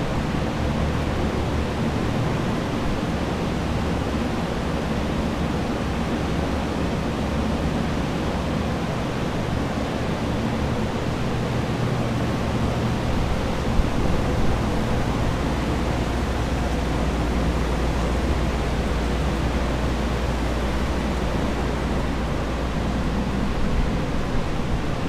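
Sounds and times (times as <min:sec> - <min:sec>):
fans blowing air: 0:00.0 - 0:25.0
low machine hum: 0:00.0 - 0:25.0.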